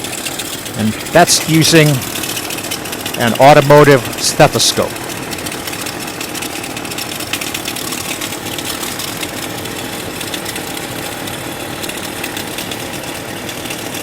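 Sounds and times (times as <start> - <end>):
pickup engine idling: 0.0 - 14.0
steady alternator noise: 0.0 - 14.0.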